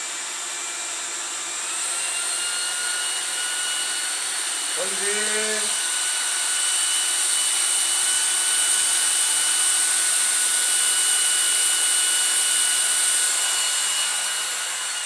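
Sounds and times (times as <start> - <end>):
cordless vacuum cleaner running: 0.0 - 15.0.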